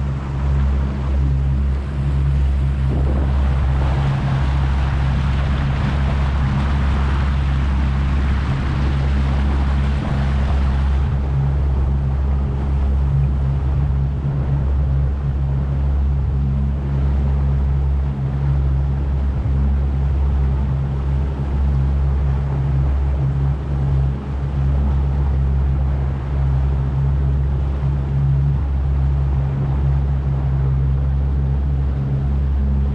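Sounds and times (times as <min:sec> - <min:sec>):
boat motor droning: 0:00.0 - 0:32.9
rushing water: 0:00.0 - 0:32.9
wind noise: 0:00.0 - 0:32.9.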